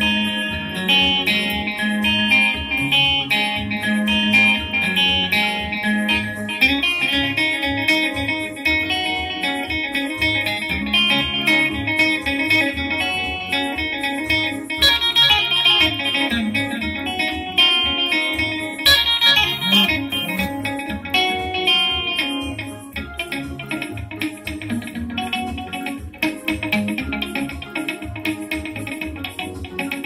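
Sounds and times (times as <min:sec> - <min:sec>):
electric guitar melodic runs: 0:00.0 - 0:30.0
electronic keyboard accompaniment: 0:00.0 - 0:30.0.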